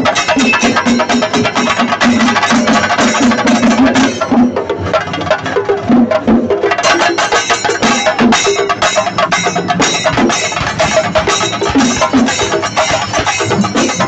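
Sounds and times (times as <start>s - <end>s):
drums beaten fast with sticks: 0.0s - 14.0s.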